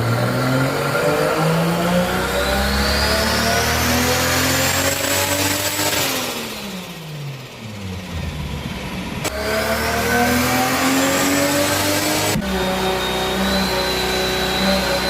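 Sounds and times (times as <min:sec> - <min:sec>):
turbocharged car engine revving: 0:00.0 - 0:15.0.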